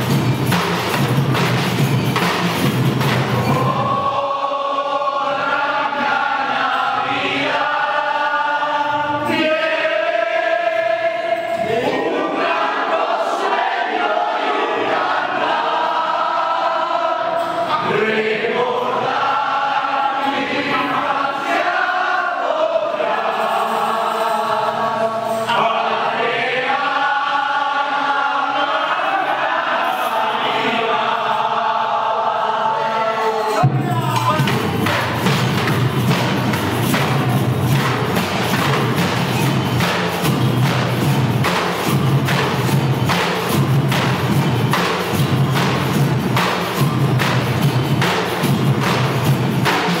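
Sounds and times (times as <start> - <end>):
group chanting in unison: 3.0 - 50.0.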